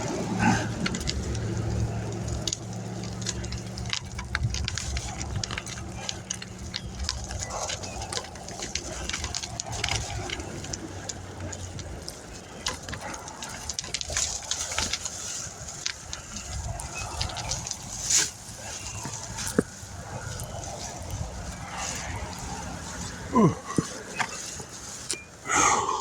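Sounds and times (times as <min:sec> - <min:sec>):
bicycle clicks and rattles: 0:00.0 - 0:26.0
motor vehicle engine hum: 0:00.0 - 0:26.0.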